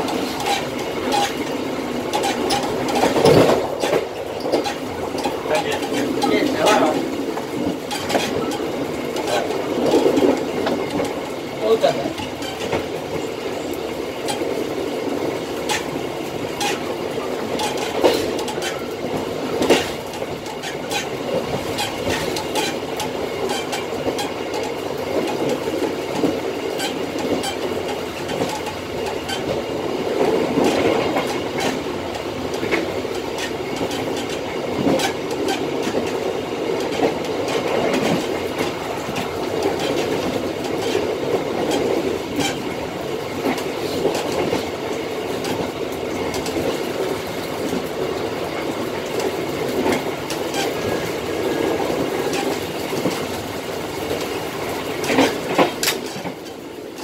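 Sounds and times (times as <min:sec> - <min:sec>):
train rolling rumble: 0:00.0 - 0:57.0
wheels clicking on track: 0:00.0 - 0:57.0.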